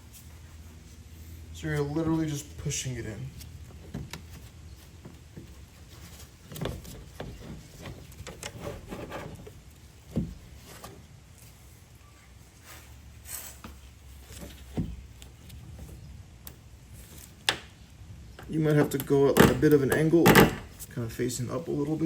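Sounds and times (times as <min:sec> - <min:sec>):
rubbing and handling noise: 0:00.0 - 0:22.0.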